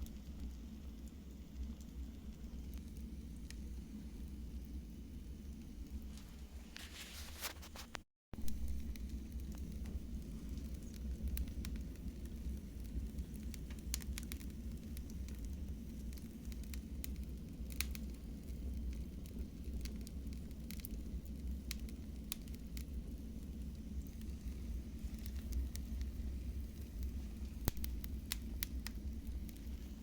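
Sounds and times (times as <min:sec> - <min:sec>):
fire flames rumbling: 0:00.0 - 0:30.0
wood fire crackling and popping: 0:00.0 - 0:30.0.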